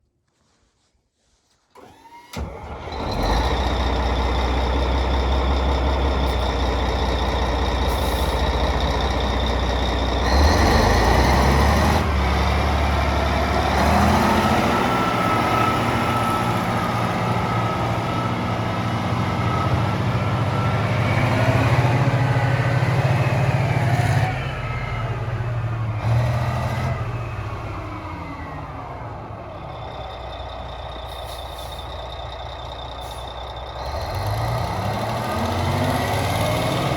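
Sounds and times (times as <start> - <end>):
diesel truck engine revving: 1.8 - 36.9.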